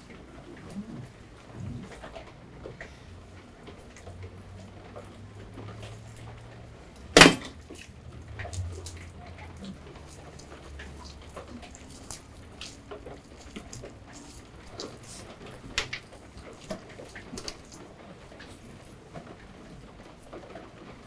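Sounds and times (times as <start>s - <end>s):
wet crackles of peeling fish skin: 0.1s - 19.6s.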